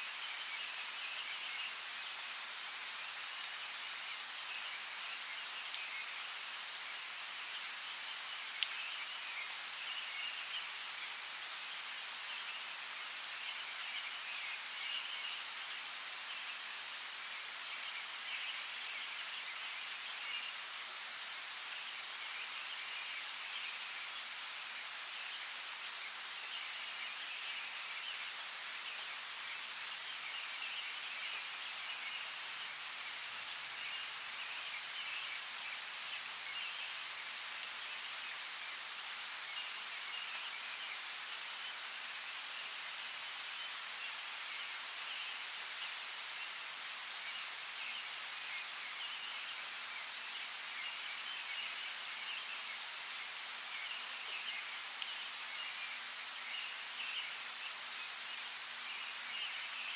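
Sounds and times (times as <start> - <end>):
raindrops striking close by: 0.0 - 59.9
steady rain: 0.0 - 59.9.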